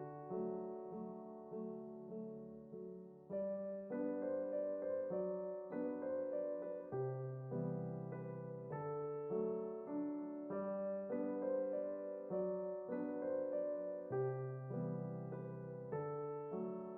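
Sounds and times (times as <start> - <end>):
gentle piano melody: 0.0 - 16.9.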